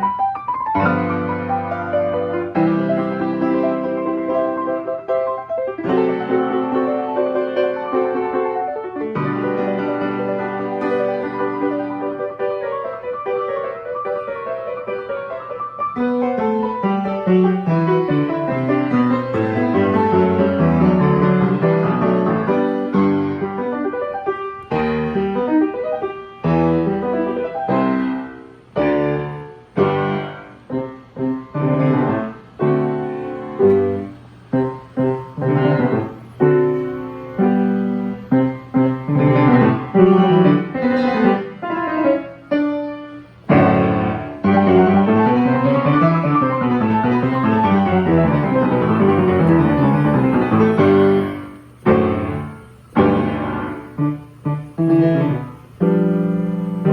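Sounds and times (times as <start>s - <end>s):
player piano playing: 0.0s - 56.9s.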